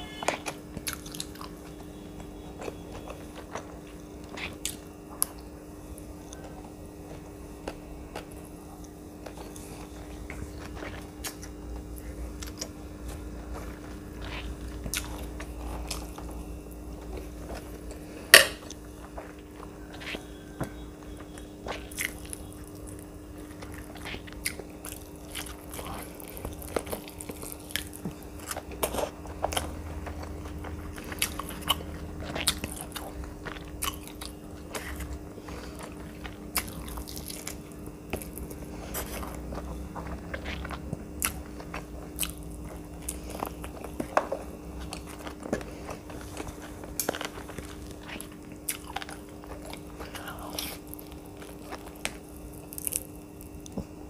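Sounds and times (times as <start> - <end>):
crunching and chewing food: 0.0 - 54.0
faint steady hum: 0.0 - 54.0.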